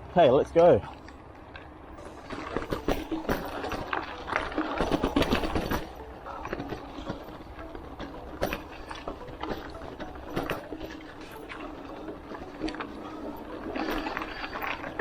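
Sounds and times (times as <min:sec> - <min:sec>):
tyres on rough dirt: 0:00.0 - 0:15.0
bike rattling and clicking: 0:01.0 - 0:15.0.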